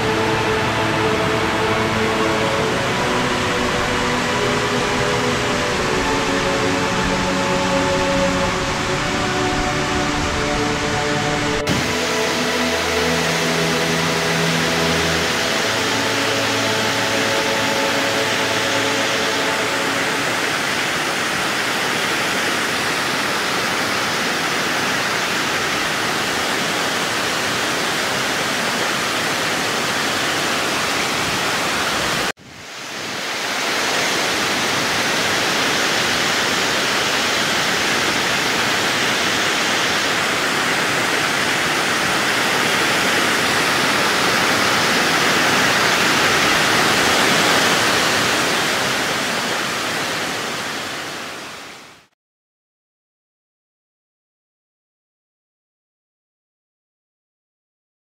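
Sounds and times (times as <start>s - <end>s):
waterfall rushing: 0.0s - 52.1s.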